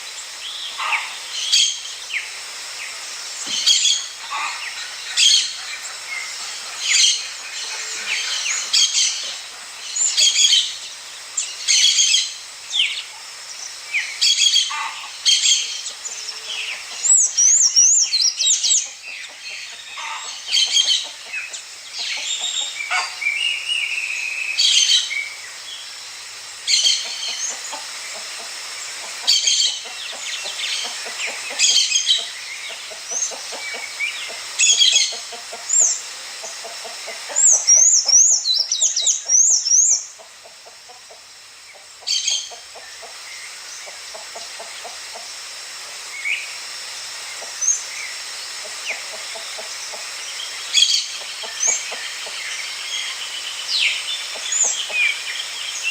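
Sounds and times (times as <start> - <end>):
soft bird chatter: 0.0 - 55.9.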